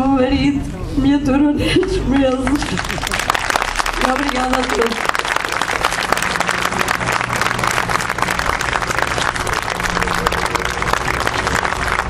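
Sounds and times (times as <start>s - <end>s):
people clapping: 1.8s - 12.0s.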